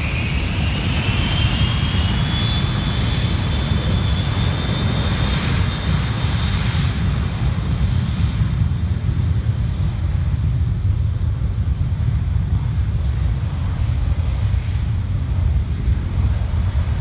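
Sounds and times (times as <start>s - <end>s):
deep rumble: 0.0s - 17.0s
jet engine whine: 0.0s - 17.0s.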